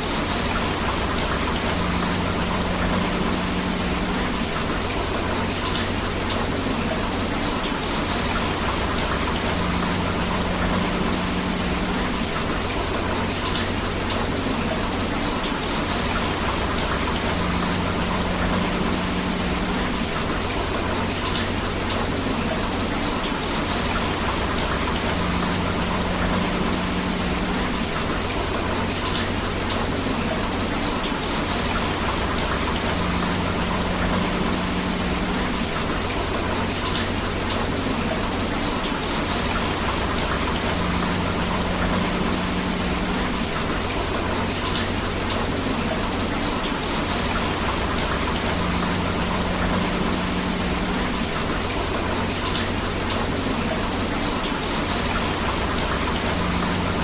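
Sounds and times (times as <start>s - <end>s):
rushing river water: 0.0s - 57.0s
steady rain: 0.0s - 57.0s.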